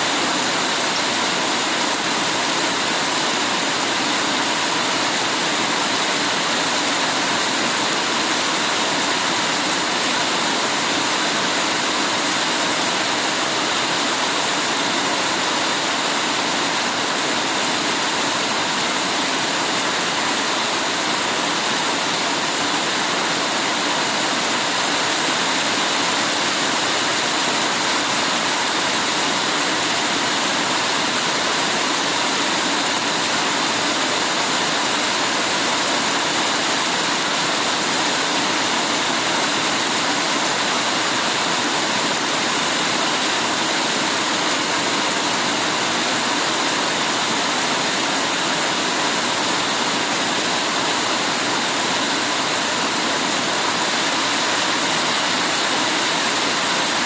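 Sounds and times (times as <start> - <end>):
heavy rain downpour: 0.0 - 57.0.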